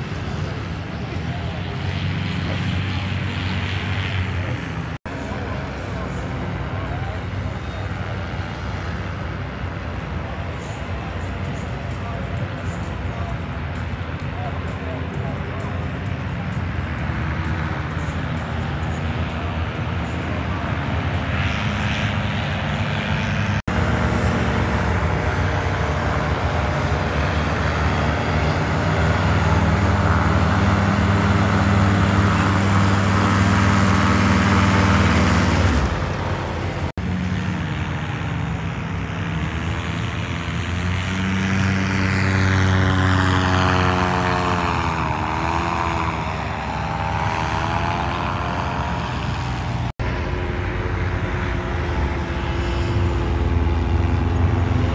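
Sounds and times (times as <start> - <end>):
small propeller engines running: 0.0 - 54.9.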